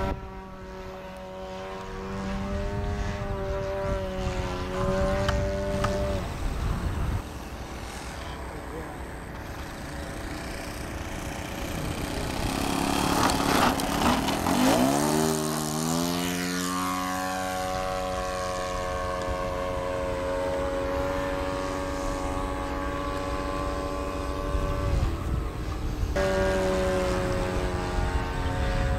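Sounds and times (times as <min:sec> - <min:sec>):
model airplane engine droning: 0:00.0 - 0:28.9.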